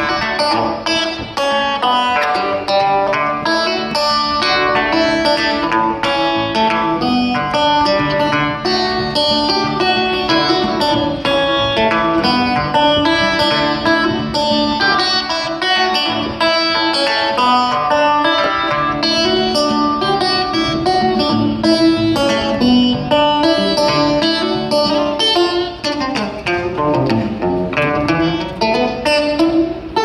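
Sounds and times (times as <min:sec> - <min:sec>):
amplified banjo picking: 0:00.0 - 0:30.0.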